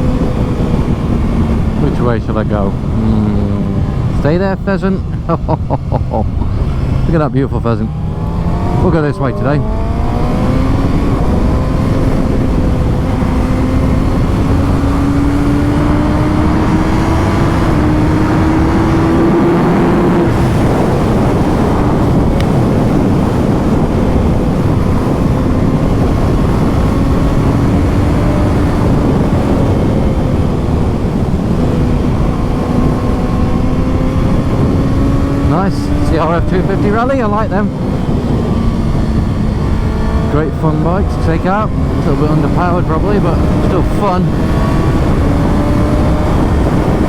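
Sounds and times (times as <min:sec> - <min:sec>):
motorcycle engine revving: 0:00.0 - 0:47.0
wind noise on microphone: 0:00.0 - 0:47.0.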